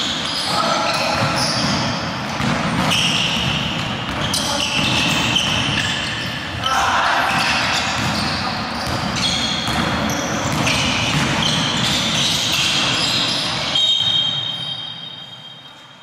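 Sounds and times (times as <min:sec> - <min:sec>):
ball bouncing on hardwood court: 0:00.0 - 0:06.6, 0:07.2 - 0:14.4
sneakers squeaking: 0:00.0 - 0:16.0.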